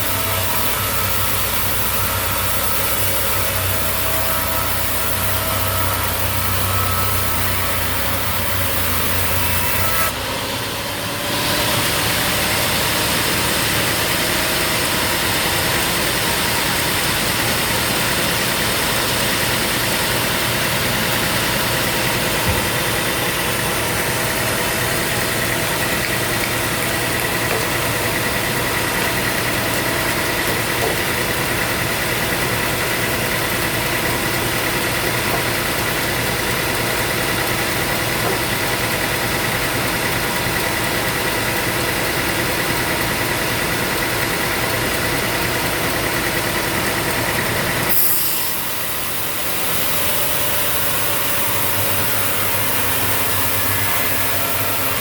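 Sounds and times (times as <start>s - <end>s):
high machine whine: 0.0s - 55.0s
sawmill motor drone: 0.0s - 55.0s.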